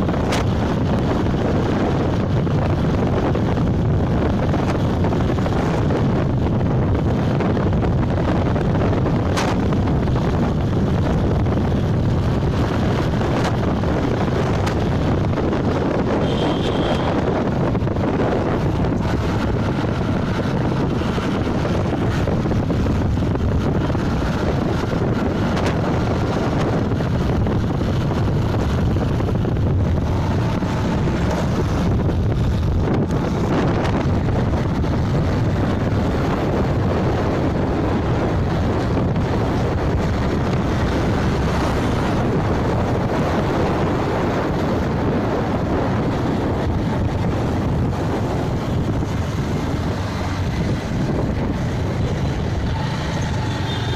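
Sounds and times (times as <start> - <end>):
vehicle noise: 0.0 - 53.9
wind rushing over microphone: 0.0 - 53.9.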